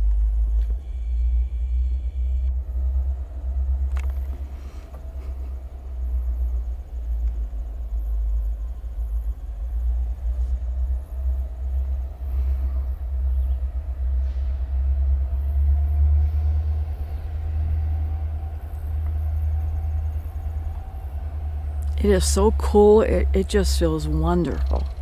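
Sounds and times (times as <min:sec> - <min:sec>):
distant freight train rumble: 0:00.0 - 0:25.0
faint engine tone: 0:00.0 - 0:25.0.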